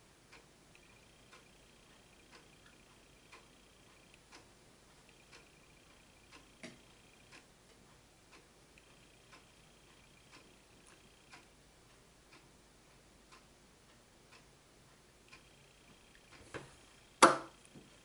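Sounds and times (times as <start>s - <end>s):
faint high-pitched whine: 0.0s - 18.0s
clock ticking: 0.3s - 18.0s.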